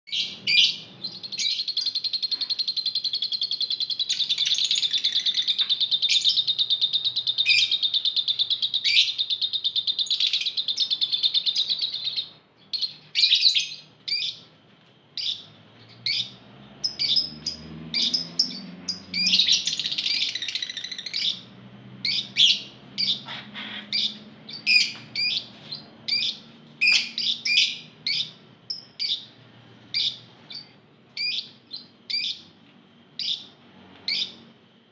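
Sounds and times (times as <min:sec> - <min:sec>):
birds chirping sharply: 0:00.1 - 0:14.5, 0:15.2 - 0:32.6, 0:33.2 - 0:34.8
lovebird chattering trill: 0:00.1 - 0:14.5, 0:15.2 - 0:29.3, 0:29.9 - 0:32.5, 0:33.2 - 0:33.5, 0:34.1 - 0:34.4.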